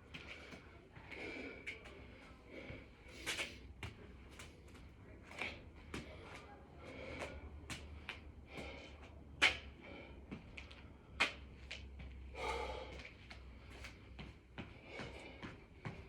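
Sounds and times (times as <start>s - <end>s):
hard breathing: 0.0s - 4.0s, 4.8s - 16.0s.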